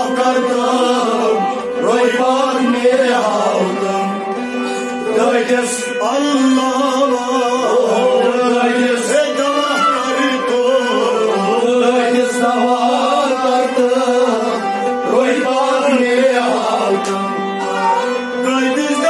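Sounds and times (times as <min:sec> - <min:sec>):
bowed sarangi: 0:00.0 - 0:19.0
chorus voices: 0:00.0 - 0:19.0
harmonium: 0:00.0 - 0:19.0
lead singer: 0:00.0 - 0:19.0
rabab: 0:00.0 - 0:19.0.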